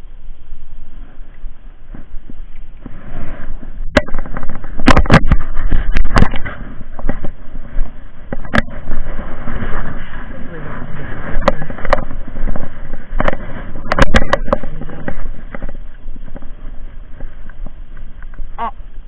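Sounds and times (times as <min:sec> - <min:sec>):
clothing rustling on microphone: 0:00.6 - 0:18.6.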